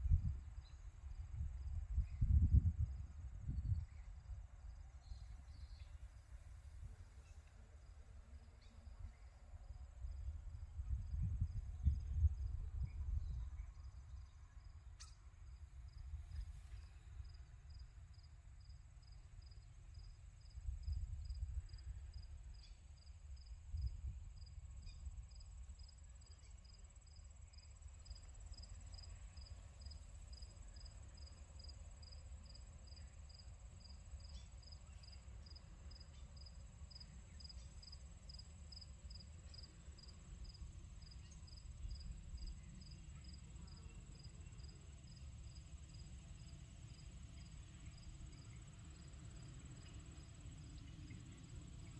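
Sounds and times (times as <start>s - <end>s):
insect chirping: 8.4s - 16.1s, 16.8s - 51.9s.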